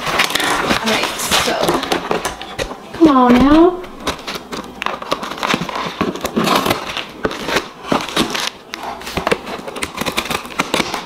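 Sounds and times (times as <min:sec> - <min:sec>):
cardboard flaps scraping: 0:00.0 - 0:11.0
packaging crinkling: 0:00.0 - 0:11.0.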